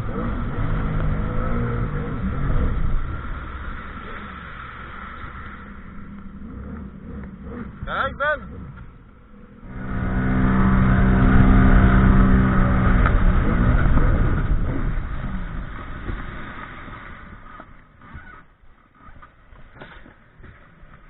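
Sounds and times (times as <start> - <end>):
watercraft engine running hard: 0.0 - 18.5.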